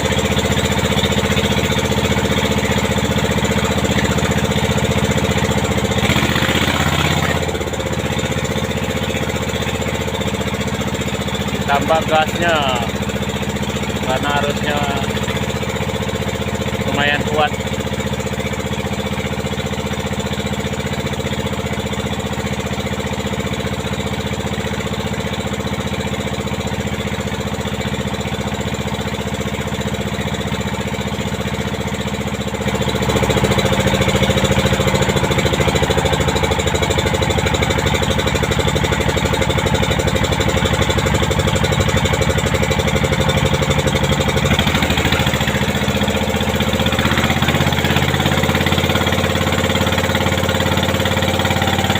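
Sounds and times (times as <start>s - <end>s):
motorboat engine running: 0.0s - 51.9s.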